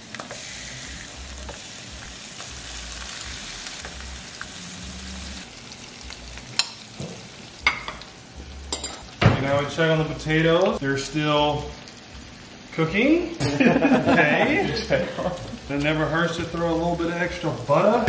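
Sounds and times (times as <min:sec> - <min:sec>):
lobster sizzling in pan: 0:00.0 - 0:18.0.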